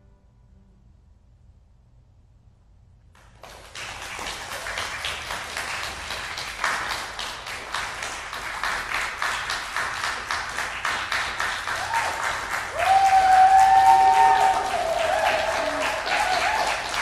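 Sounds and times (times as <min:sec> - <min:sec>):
audience applause: 0:03.2 - 0:17.0.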